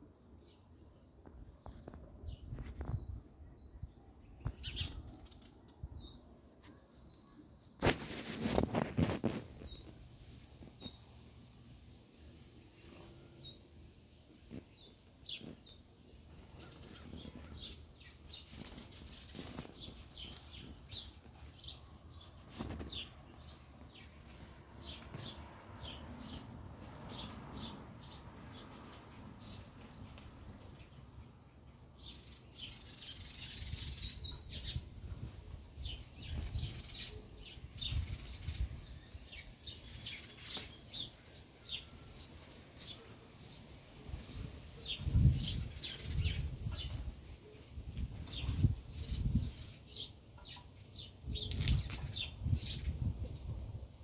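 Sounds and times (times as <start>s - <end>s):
small birds chirping: 0.4s - 53.6s.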